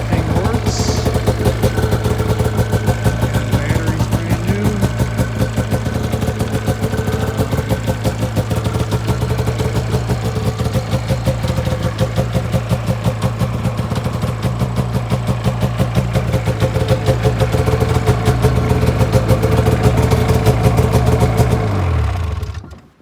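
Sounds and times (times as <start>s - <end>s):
snowmobile engine idling: 0.0s - 22.9s.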